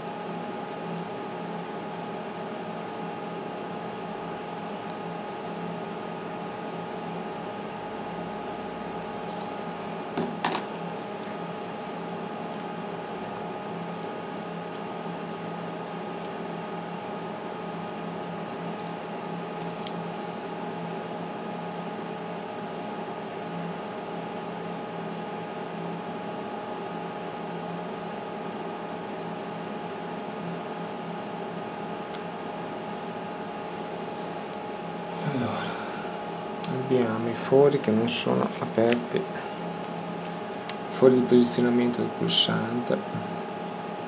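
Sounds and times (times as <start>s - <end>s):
bench equipment humming: 0.0s - 44.0s.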